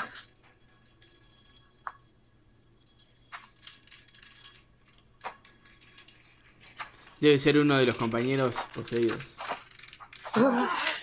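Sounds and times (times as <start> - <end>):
sharp clicks and small ticks: 0.1 - 10.4.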